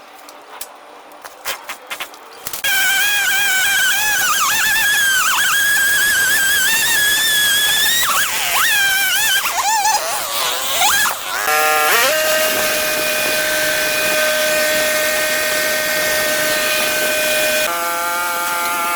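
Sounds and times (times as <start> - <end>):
chainsaw cutting log: 2.6 - 18.9.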